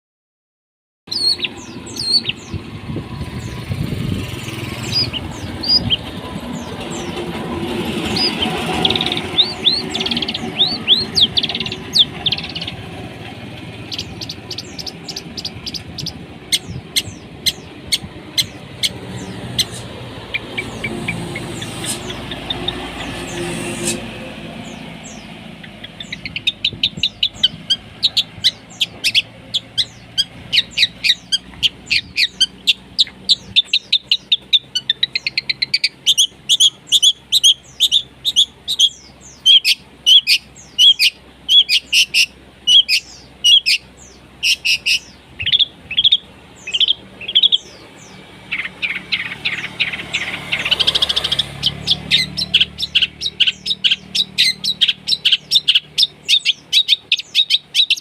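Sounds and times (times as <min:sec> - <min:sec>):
bird singing harsh fast song: 0:01.1 - 0:58.0.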